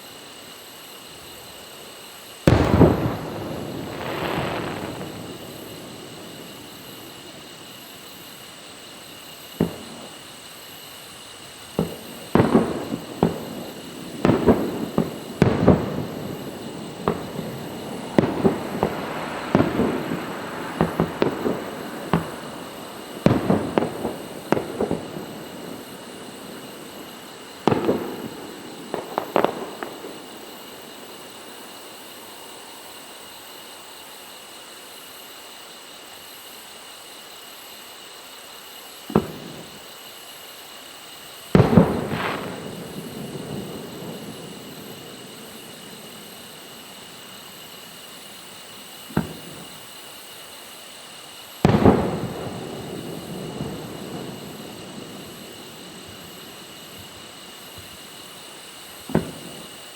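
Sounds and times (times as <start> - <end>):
fireworks booming: 1.2 - 33.7, 39.1 - 40.0, 41.4 - 50.4, 51.6 - 59.9.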